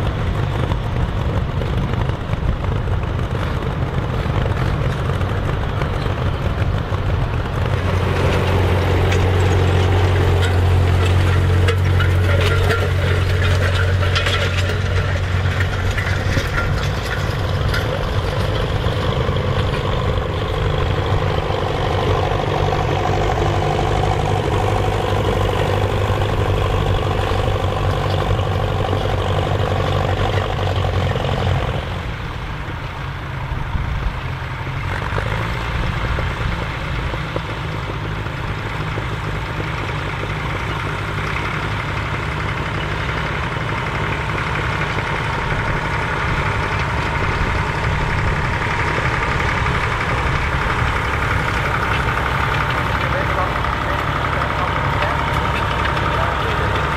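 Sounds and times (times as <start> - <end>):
tractor engine running under load: 0.0 - 56.9.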